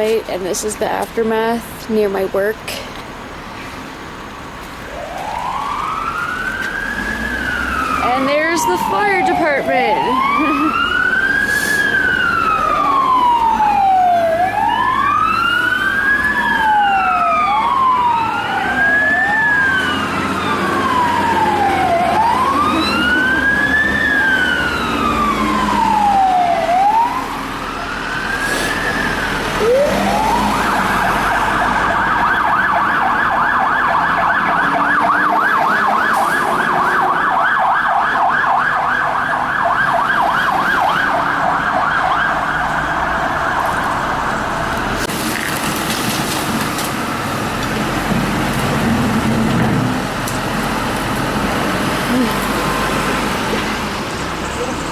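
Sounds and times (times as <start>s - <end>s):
vehicle engine rumble: 0.0s - 54.9s
fire truck siren wailing: 4.7s - 54.9s.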